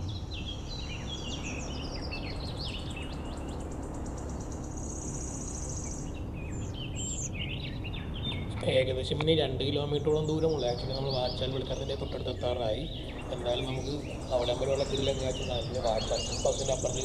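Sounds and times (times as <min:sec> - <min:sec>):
rapid high bird trill: 0:00.0 - 0:08.6, 0:10.0 - 0:17.0
birds chirping and whistling: 0:00.0 - 0:17.0
low background noise: 0:00.0 - 0:17.0.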